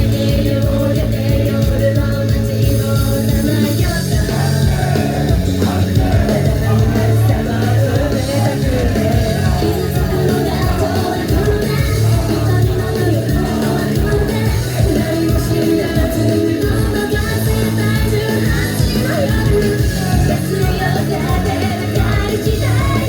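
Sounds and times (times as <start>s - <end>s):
pop song over sound system: 0.0s - 23.0s.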